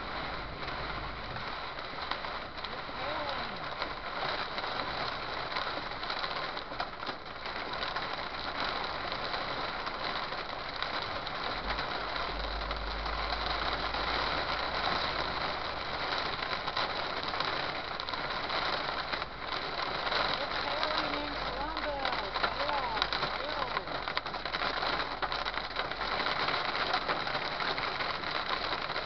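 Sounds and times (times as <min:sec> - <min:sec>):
hail and rain on vehicle: 0:00.0 - 0:29.0
road and engine noise: 0:00.0 - 0:29.0.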